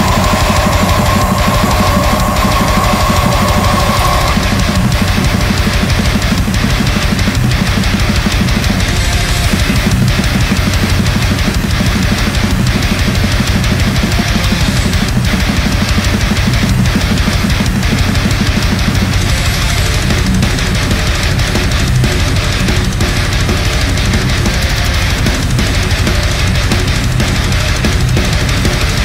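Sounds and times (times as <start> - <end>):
music with driving drum beat: 0.0 - 29.0.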